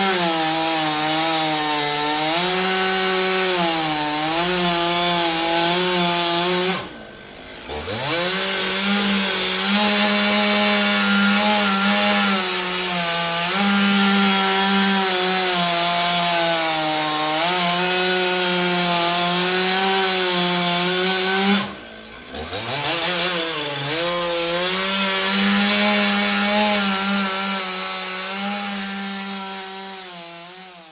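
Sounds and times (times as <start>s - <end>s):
chainsaw engine revving: 0.0s - 30.9s.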